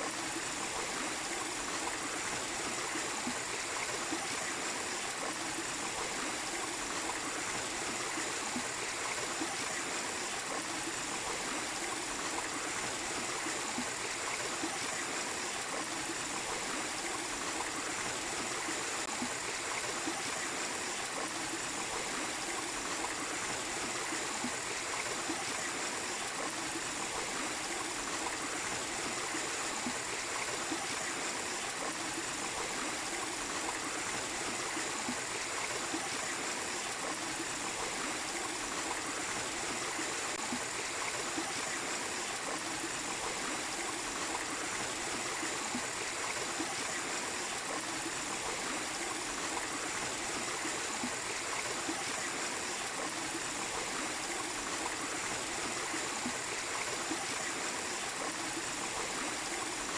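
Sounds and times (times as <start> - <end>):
water rushing in stream: 0.0 - 59.9.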